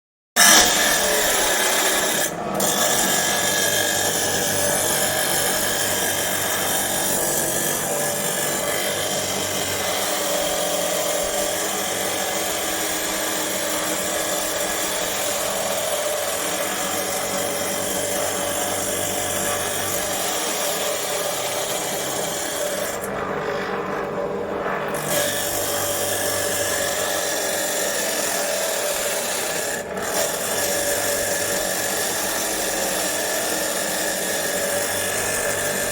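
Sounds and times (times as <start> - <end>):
chop saw grinding whine: 0.4 - 35.9.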